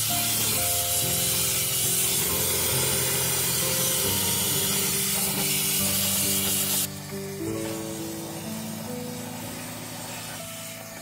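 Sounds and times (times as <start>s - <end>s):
background music: 0.0s - 11.0s
gas torch flame hissing: 0.0s - 11.0s.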